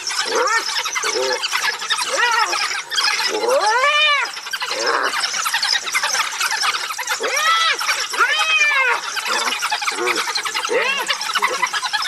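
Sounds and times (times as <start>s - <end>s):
wild dogs squealing and twittering: 0.0s - 12.0s.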